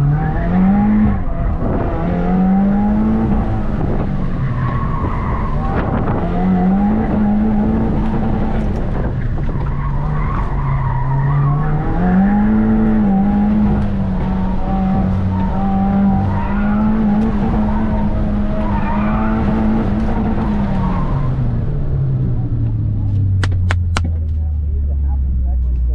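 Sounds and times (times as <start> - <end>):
tires squealing: 0.0 - 22.0
car engine driven hard: 0.0 - 25.9.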